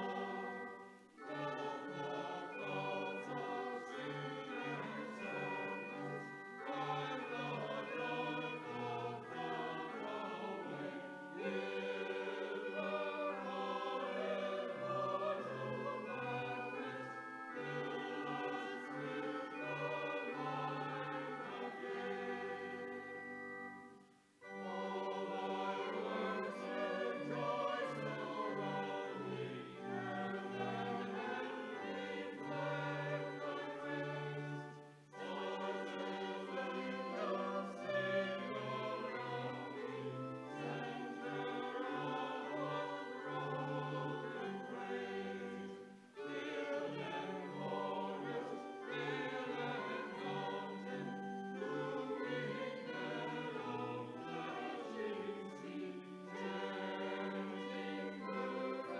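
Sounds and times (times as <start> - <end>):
church music sustained chords: 0.0 - 58.9.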